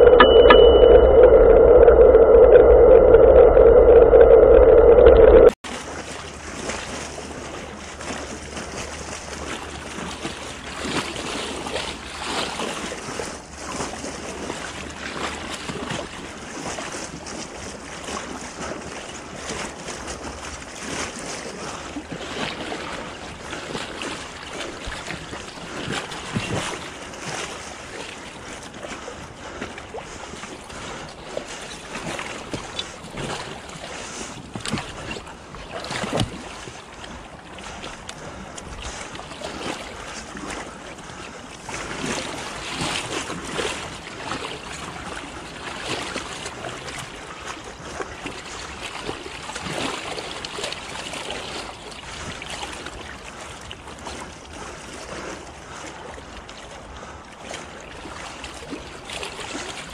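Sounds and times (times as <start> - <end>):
water splashing along a hull: 5.6 - 59.9.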